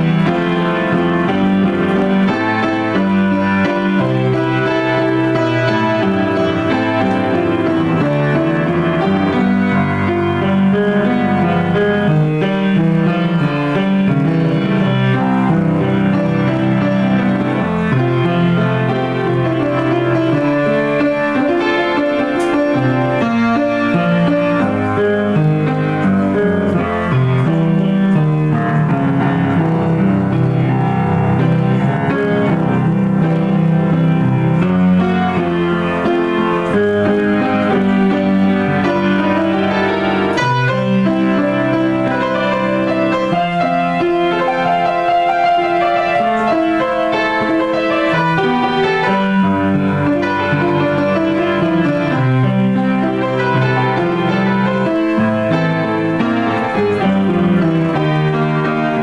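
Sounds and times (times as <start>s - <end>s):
solo grand piano: 0.0s - 59.0s.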